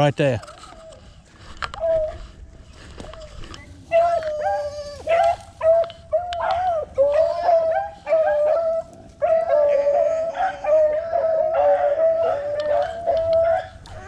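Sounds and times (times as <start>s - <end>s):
beagles baying: 0.5s - 14.0s.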